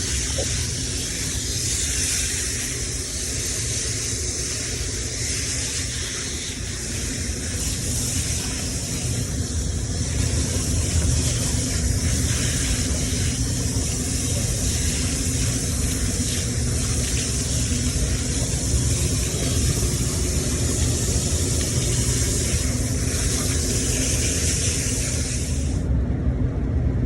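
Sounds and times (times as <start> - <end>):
water spray hissing: 0.0 - 25.8.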